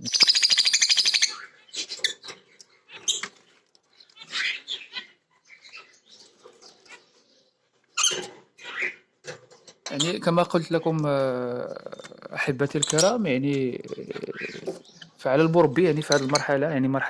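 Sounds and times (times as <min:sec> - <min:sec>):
lovebirds chirping and squawking: 0:00.0 - 0:17.0.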